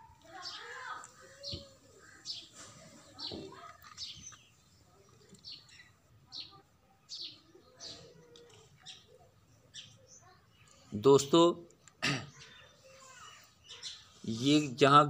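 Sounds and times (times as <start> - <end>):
small bird chirping: 0.2 - 10.9, 11.8 - 14.3.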